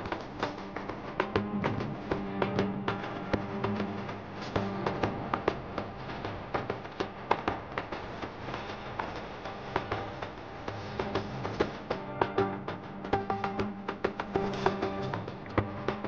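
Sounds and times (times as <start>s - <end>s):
percussive taps and clicks: 0.0s - 16.0s.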